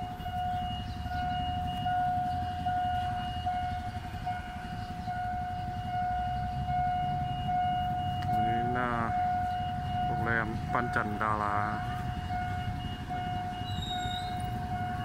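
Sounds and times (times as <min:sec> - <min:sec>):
level crossing warning alarm: 0:00.0 - 0:15.0.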